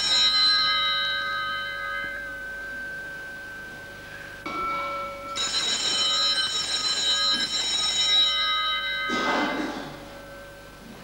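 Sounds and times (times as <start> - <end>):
altar bells ringing: 0.0 - 11.0.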